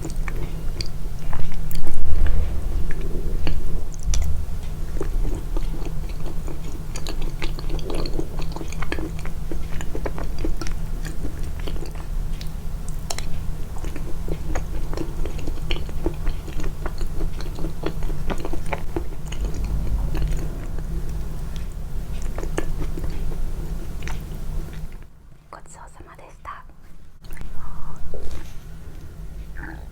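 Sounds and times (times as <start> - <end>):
person chewing food: 0.0 - 25.1, 26.8 - 29.9
low hum: 0.0 - 25.6.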